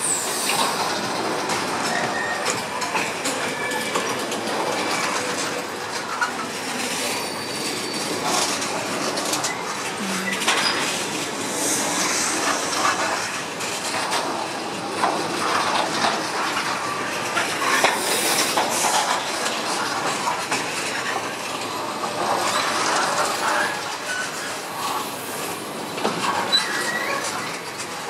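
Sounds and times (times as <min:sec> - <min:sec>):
freight train passing: 0:00.0 - 0:28.0
wheels clattering over track: 0:00.0 - 0:28.0.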